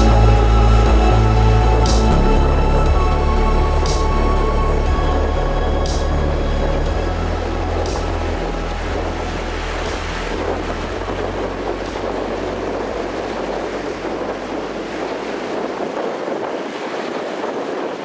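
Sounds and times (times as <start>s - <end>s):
waves washing: 0.0s - 18.0s
wind buffeting microphone: 0.0s - 18.0s.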